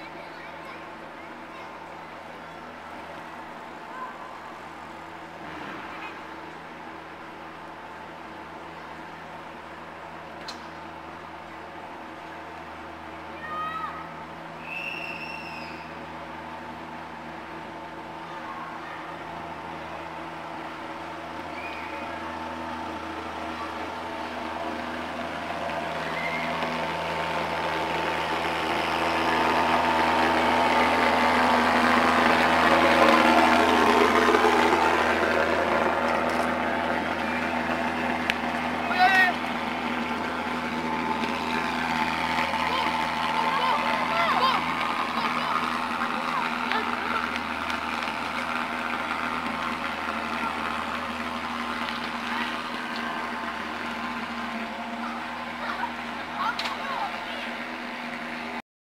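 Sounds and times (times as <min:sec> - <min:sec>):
fogger mechanical drone: 0:00.0 - 0:58.6.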